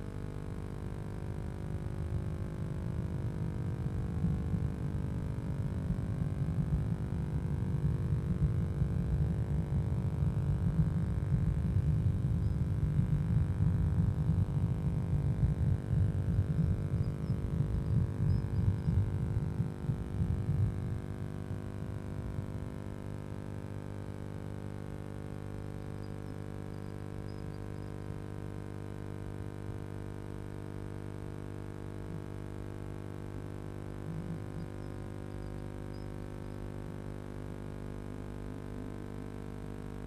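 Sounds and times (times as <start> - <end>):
low uneven rumble: 0.0 - 28.6, 33.3 - 37.0
electrical hum: 0.0 - 40.0.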